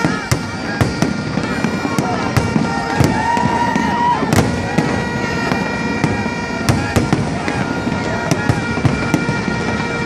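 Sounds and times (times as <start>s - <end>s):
fireworks bangs: 0.0s - 10.0s
fireworks crackling: 0.0s - 10.0s
fireworks whistling: 0.0s - 10.0s.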